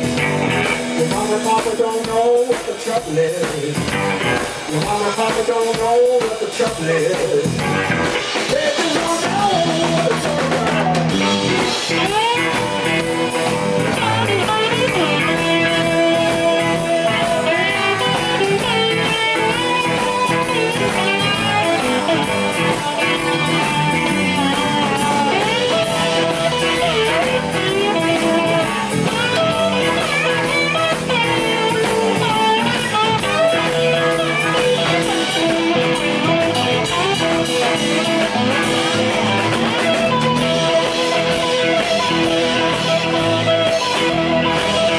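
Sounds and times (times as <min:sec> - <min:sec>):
blues band playing: 0:00.0 - 0:44.9
electric guitar lead: 0:00.0 - 0:44.9.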